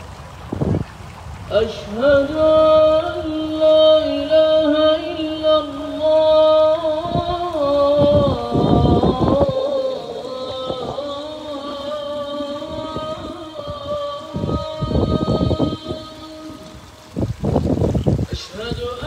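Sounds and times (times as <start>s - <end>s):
person chanting long notes: 1.5s - 17.4s.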